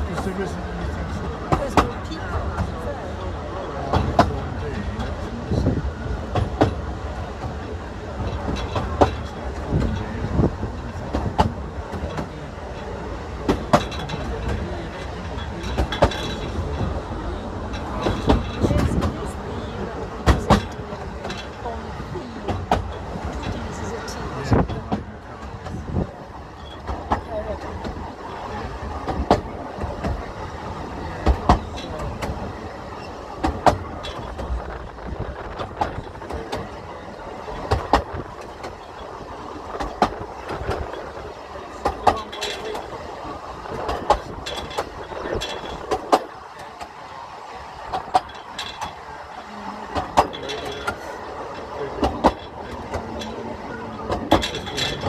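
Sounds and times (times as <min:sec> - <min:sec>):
railway coach rumble: 0:00.0 - 0:55.0
wheels clanking over rail joints: 0:00.0 - 0:55.0.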